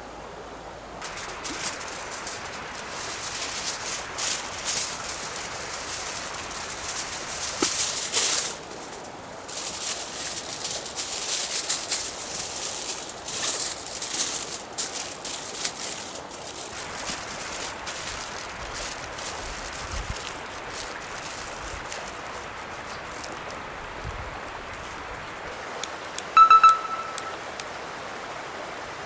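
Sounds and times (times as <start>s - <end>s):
aluminium foil crinkling: 1.0s - 25.3s.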